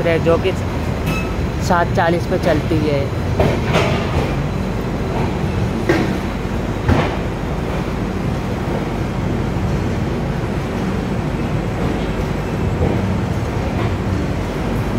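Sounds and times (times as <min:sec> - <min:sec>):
train rumble and air rush: 0:00.0 - 0:14.9.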